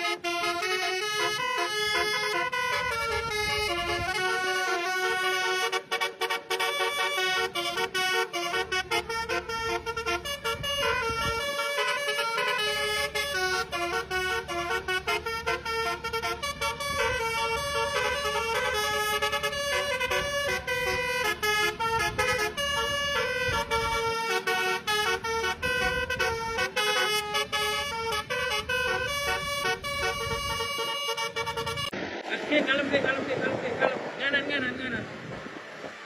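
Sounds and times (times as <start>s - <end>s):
low engine rumble: 0.0s - 5.9s, 6.8s - 36.0s
multi-tone bus horn tune: 0.0s - 32.0s.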